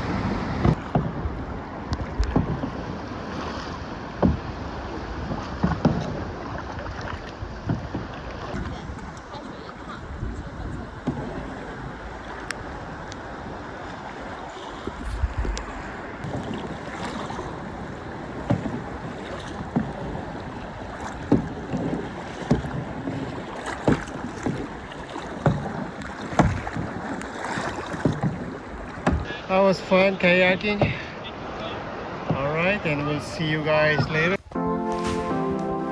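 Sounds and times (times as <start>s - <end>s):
paddles splashing in water: 0.0s - 35.9s
water noise: 0.0s - 35.9s
wind: 0.0s - 35.9s.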